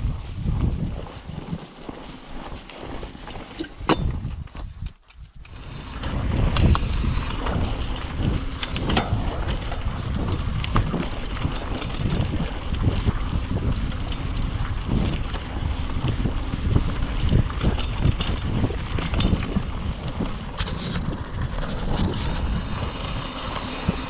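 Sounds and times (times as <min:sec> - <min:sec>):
bike tyres rumbling on rocky trail: 0:00.0 - 0:24.0
wind buffeting microphone: 0:00.0 - 0:24.0
bike rattling clicks and knocks: 0:02.8 - 0:24.0.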